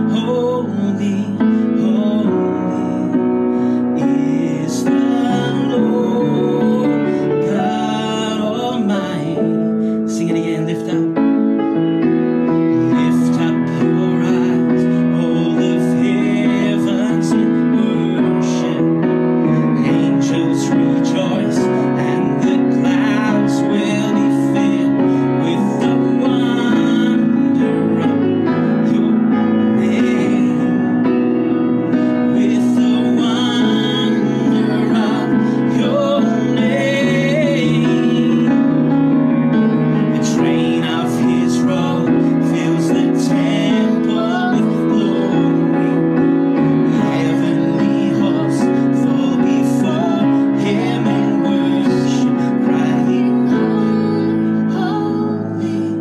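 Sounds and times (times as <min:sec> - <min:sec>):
man and woman singing: 0:00.0 - 0:11.4, 0:12.7 - 0:56.0
instrumental accompaniment: 0:00.0 - 0:56.0.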